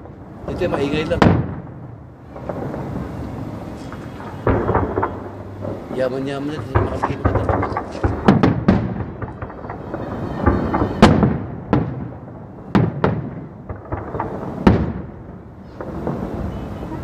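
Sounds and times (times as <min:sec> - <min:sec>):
firework shells booming: 0:00.0 - 0:17.0.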